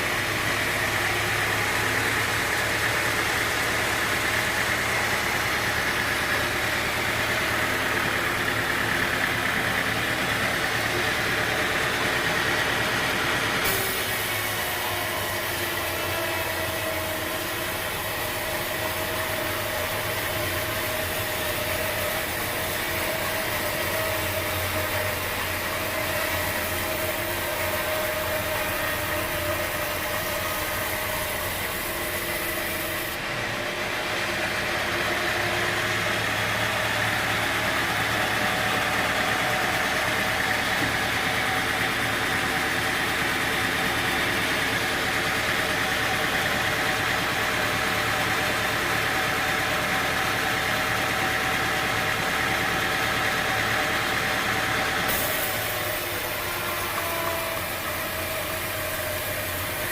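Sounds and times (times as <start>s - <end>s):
engine-driven machinery humming: 0.0s - 59.9s.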